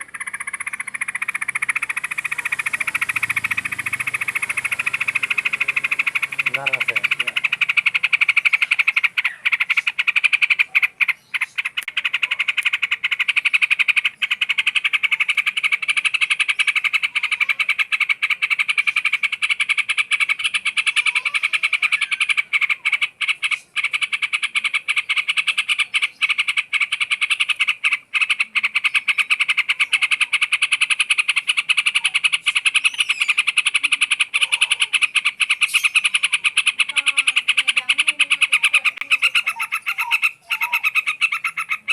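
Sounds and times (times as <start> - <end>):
buzzy chorus of calling animals: 0.0 - 41.9
faint bird-like calls: 0.0 - 41.9.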